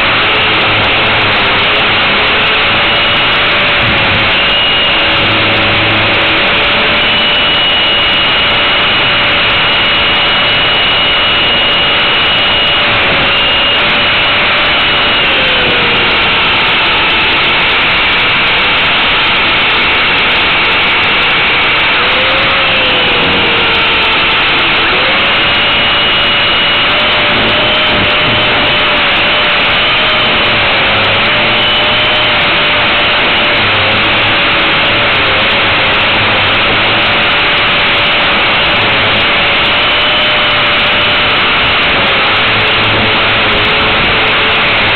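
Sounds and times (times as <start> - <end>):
heavy rushing noise: 0.0 - 44.9
rc helicopter motor whine: 0.0 - 44.9.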